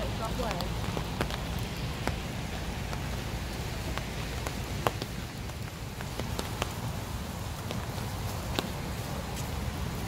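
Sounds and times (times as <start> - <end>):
rain falling on pavement: 0.0 - 10.0.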